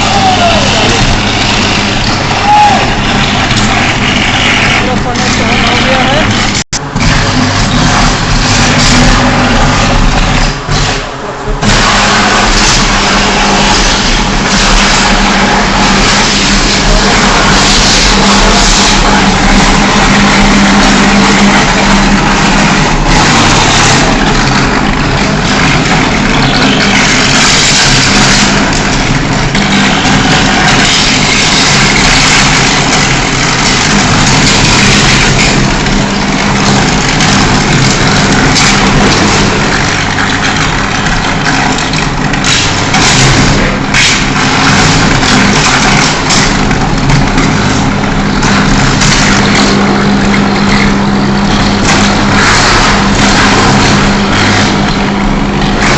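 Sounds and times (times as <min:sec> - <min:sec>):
electrical hum: 0:00.0 - 0:55.9
furnace arc crackling roar: 0:00.0 - 0:55.9.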